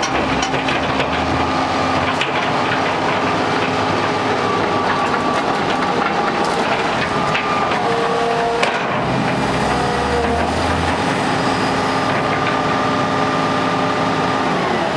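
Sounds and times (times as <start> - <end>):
excavator engine whining: 0.0 - 14.9.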